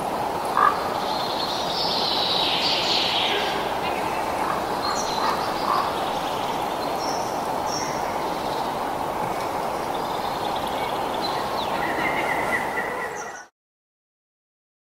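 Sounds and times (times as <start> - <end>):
wind through foliage: 0.0 - 13.5.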